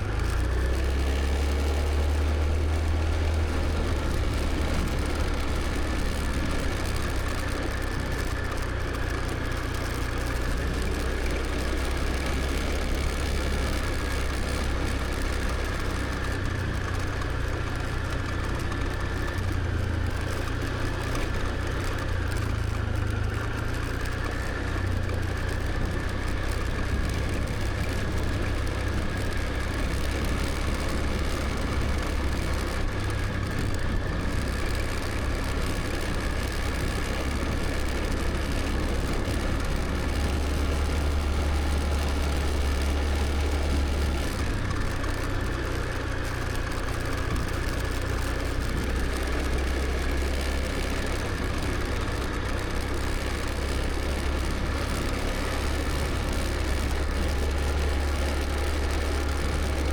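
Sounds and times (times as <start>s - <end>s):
engine whine: 0.0s - 59.9s
motor scooter engine rumbling: 0.0s - 59.9s.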